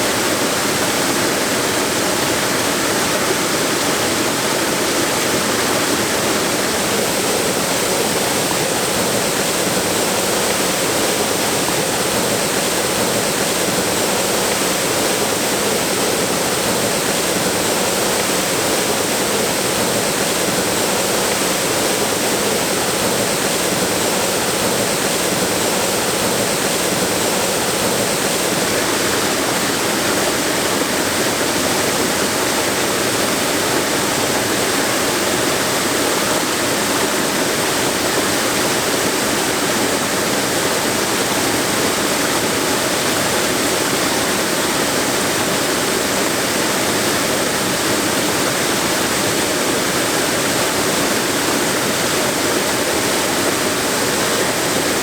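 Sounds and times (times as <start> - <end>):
waterfall pouring over rocks: 0.0 - 55.0.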